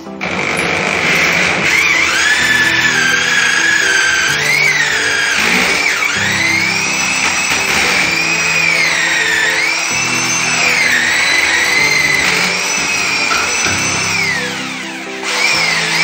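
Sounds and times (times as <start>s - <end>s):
music: 0.0s - 16.0s
power drill cutting plaster: 0.0s - 16.0s.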